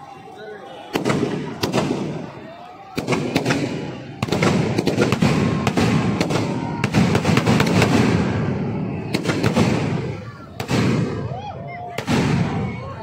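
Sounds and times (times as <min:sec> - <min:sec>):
firecrackers bursting: 0:00.8 - 0:13.0.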